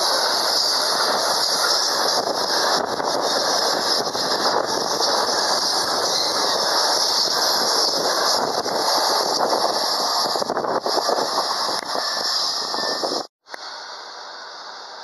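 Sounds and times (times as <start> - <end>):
freight wagons rolling on rails: 0.0 - 13.3.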